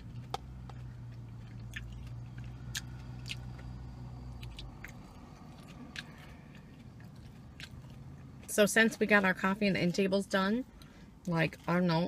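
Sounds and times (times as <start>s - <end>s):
chewing salad: 0.0s - 10.0s
steady low hum: 0.0s - 12.0s.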